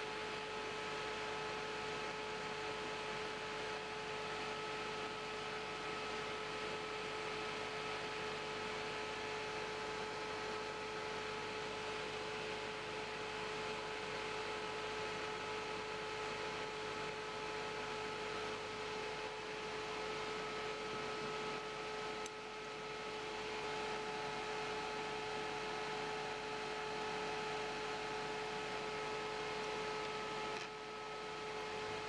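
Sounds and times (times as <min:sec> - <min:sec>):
extractor fan running: 0:00.0 - 0:32.0.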